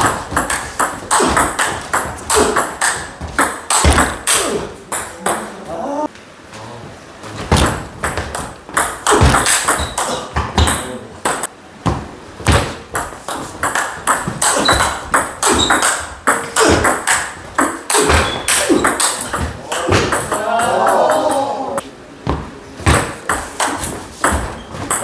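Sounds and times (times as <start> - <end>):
ball bouncing on table: 0.0 - 5.5, 7.5 - 21.4, 22.2 - 25.0.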